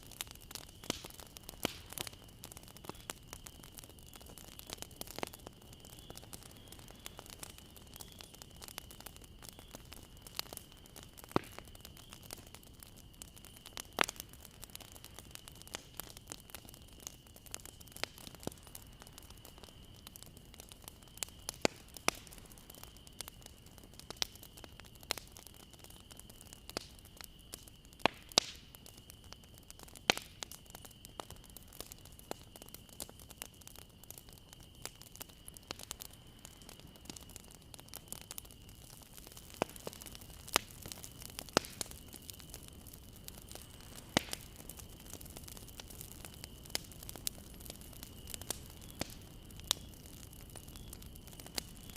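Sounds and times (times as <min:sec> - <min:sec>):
bonfire crackling: 0:00.0 - 0:51.9.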